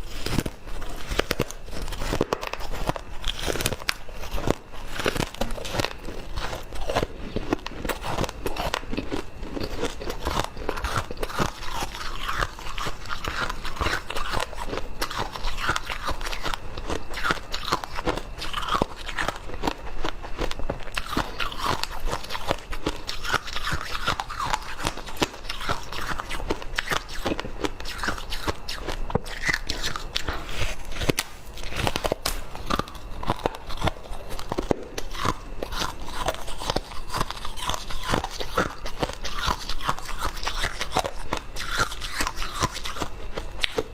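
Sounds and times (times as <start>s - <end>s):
person chewing ice: 0.0s - 43.9s.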